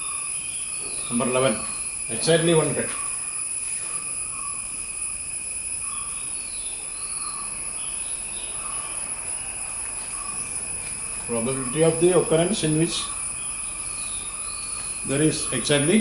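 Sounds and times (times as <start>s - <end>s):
high-pitched whine: 0.0s - 16.0s.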